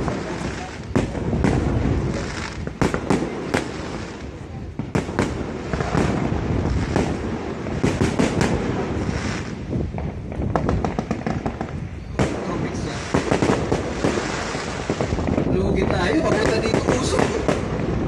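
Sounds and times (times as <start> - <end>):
fireworks bangs rumbling: 0.0 - 18.0
fireworks crackling pops: 0.0 - 18.0.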